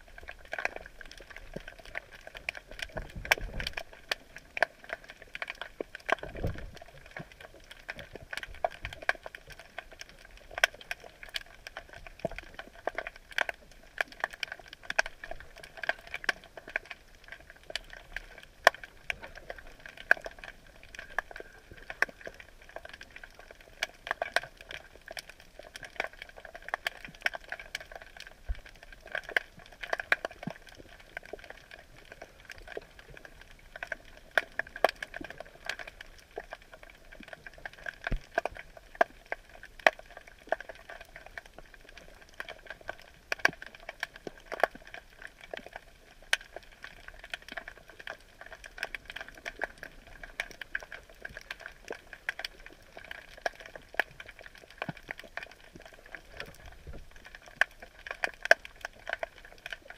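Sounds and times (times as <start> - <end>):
underwater crackling clicks: 0.0 - 59.9.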